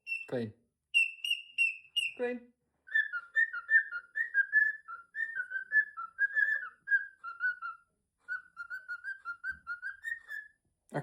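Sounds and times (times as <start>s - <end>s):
cockatiel whistling: 0.0s - 0.3s, 0.9s - 2.2s, 2.9s - 10.6s.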